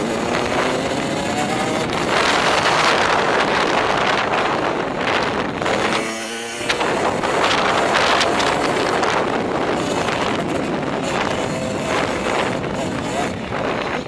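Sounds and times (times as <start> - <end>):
vehicle running at speed: 0.0 - 14.0
wind buffeting microphone: 0.0 - 14.0.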